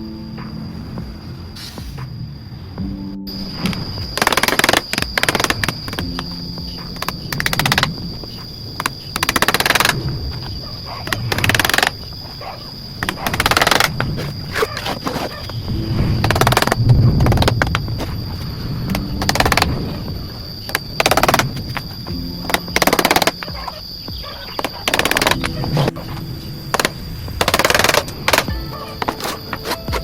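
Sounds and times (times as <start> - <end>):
background music: 0.0 - 12.0, 13.0 - 30.0.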